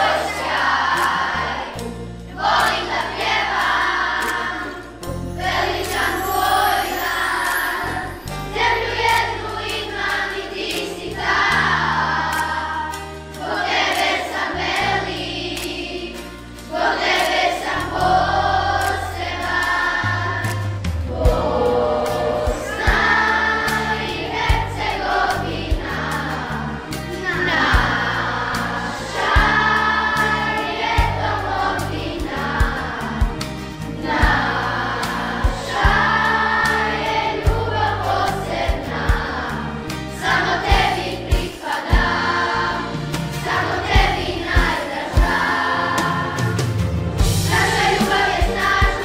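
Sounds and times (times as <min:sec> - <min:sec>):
children's choir singing: 0:00.0 - 0:49.0
instrumental accompaniment: 0:00.0 - 0:49.0.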